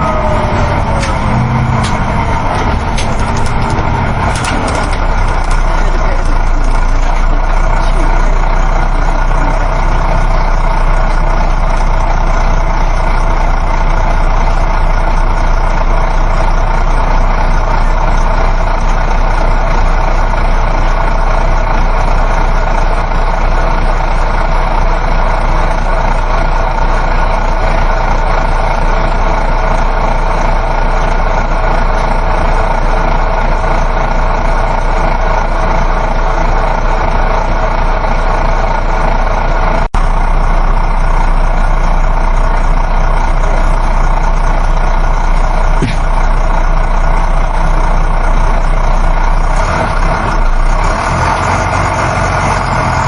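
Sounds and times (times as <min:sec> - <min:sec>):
bus engine hum: 0:00.0 - 0:53.0
road and wind noise: 0:00.0 - 0:53.0.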